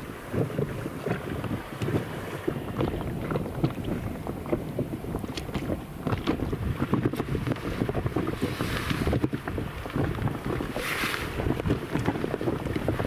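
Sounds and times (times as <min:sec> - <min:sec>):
waves slapping inflatable boat: 0:00.0 - 0:13.0
wind buffeting microphone: 0:00.0 - 0:13.0.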